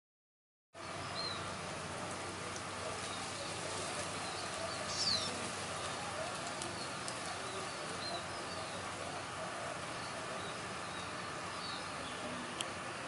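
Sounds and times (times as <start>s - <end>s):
bird chirping: 0.8s - 1.6s, 2.9s - 12.8s
steady background hiss: 0.8s - 13.0s.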